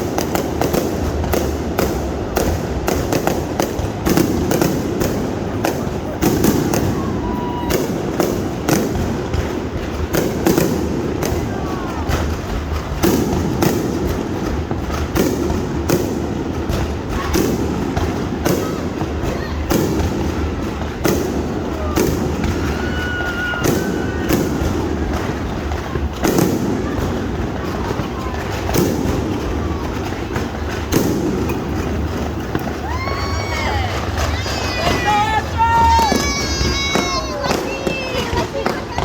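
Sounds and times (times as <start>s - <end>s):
firework whistling: 0.0s - 39.0s
fireworks bangs and booms: 0.0s - 39.0s.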